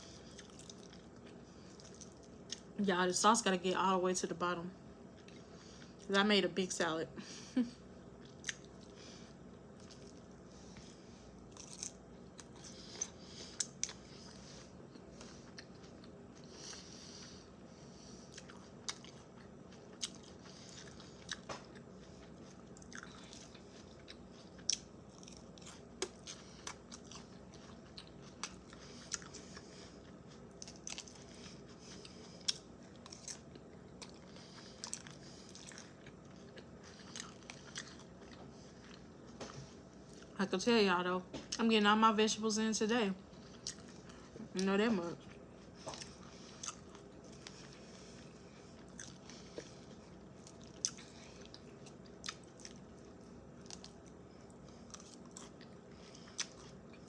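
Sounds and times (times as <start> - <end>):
chewing and crunching salad: 0.0 - 2.8, 4.1 - 6.8, 8.1 - 40.4, 43.2 - 57.0.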